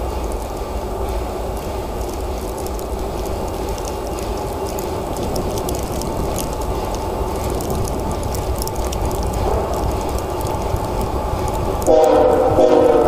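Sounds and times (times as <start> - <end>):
sharp high ticks: 0.0 - 12.6
diesel locomotive rumbling: 0.0 - 13.0.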